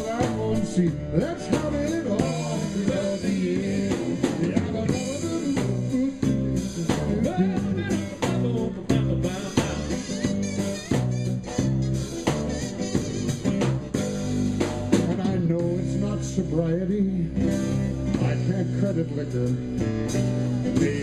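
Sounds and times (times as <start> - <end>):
bass guitar: 0.0 - 21.0
drum kit beat: 0.0 - 21.0
electric guitar: 0.0 - 21.0.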